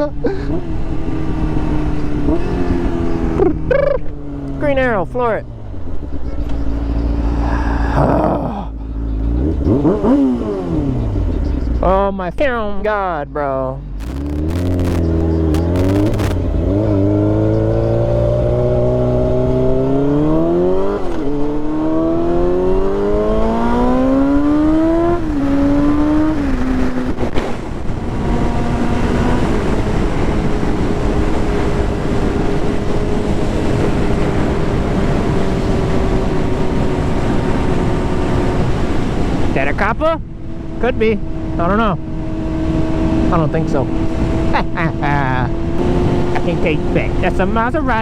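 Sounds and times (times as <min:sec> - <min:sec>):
motorcycle engine accelerating: 0:00.0 - 0:13.1, 0:13.8 - 0:48.0.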